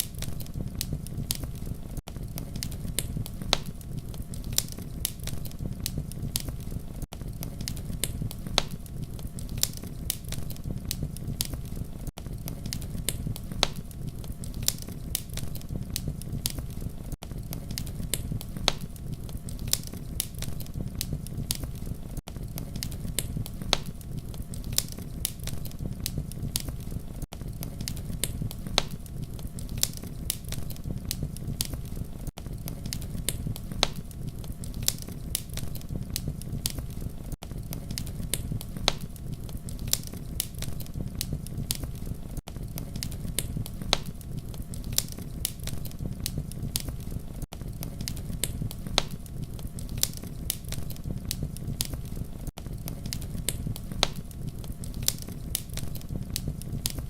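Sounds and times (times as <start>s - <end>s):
campfire crackling: 0.0s - 57.0s
flames rumbling: 0.0s - 57.0s.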